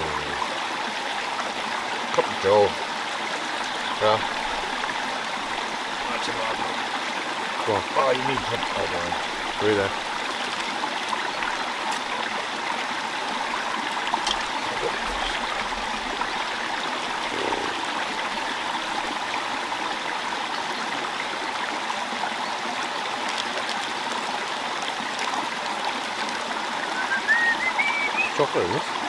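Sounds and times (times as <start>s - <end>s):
stream trickling: 0.0s - 29.0s.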